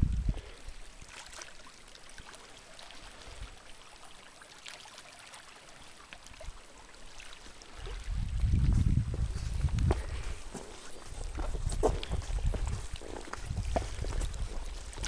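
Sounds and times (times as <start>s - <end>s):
lake water lapping on rocks: 0.0s - 15.0s
small water splashes: 0.0s - 15.0s.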